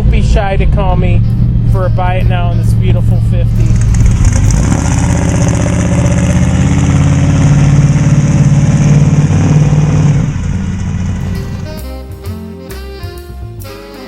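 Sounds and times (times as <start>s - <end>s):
vee eight engine exhaust pulsing: 0.0s - 14.0s.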